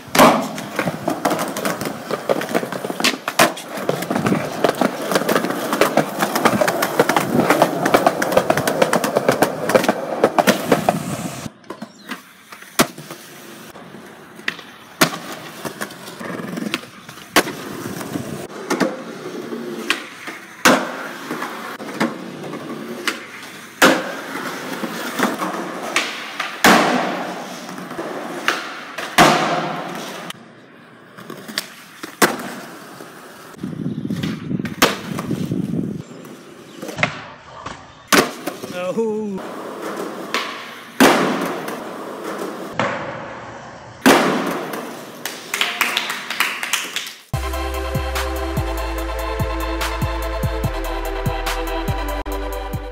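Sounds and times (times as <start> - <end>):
skateboard popping and landing: 0.0 - 38.8, 39.4 - 47.2
skateboard wheels rolling on concrete: 0.0 - 52.9.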